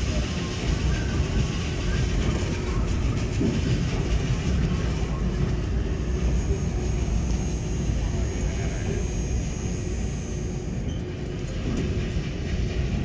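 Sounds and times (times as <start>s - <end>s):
monorail car rumble: 0.0s - 13.0s.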